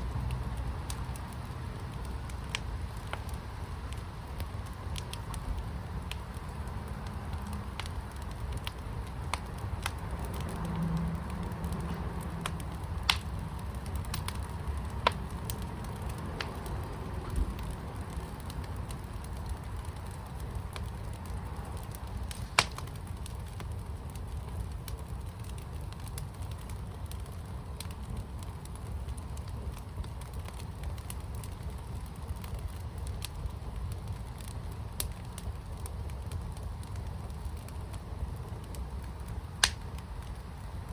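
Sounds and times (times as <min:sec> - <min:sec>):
fire burning with crackles and pops: 0:00.0 - 0:40.9.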